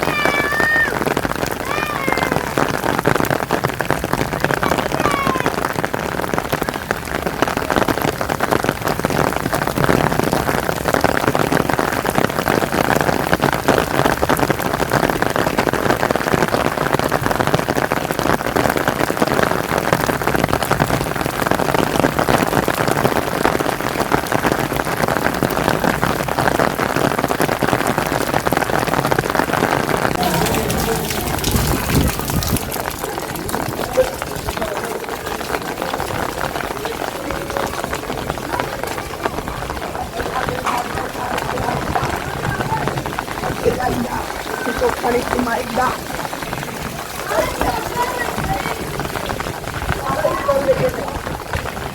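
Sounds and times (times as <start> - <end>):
heavy rain on hard surfaces: 0.0 - 51.9.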